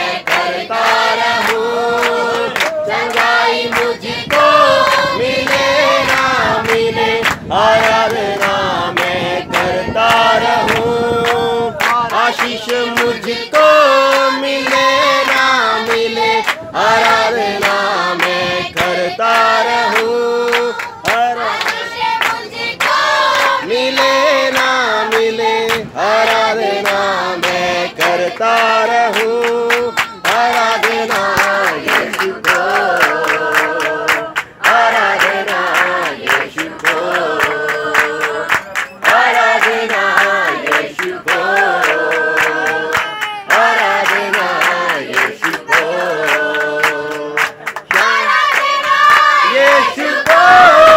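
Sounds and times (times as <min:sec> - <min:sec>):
group singing worship song: 0:00.0 - 0:50.9
rhythmic hand clapping: 0:00.0 - 0:50.9.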